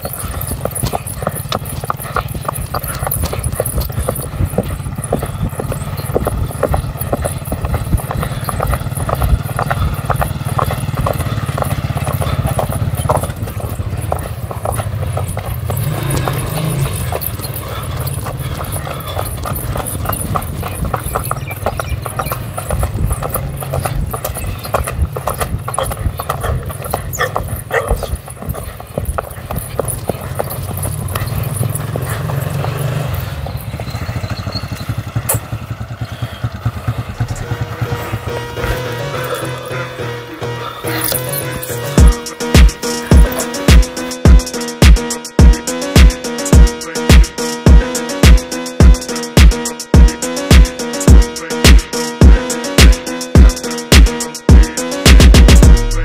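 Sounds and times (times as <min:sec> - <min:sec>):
hooves on dry dirt: 0:00.0 - 0:56.0.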